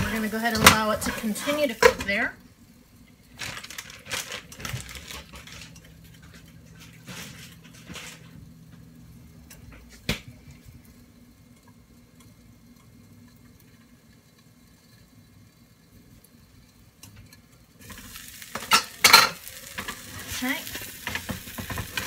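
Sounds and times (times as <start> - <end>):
muffled sizzling in frying pan: 0.0 - 22.0.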